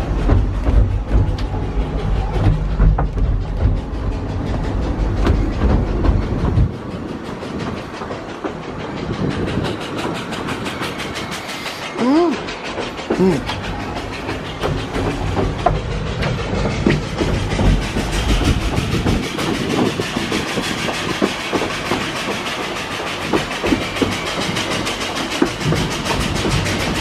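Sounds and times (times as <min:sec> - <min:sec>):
train rumble and wheel clatter: 0:00.0 - 0:27.0.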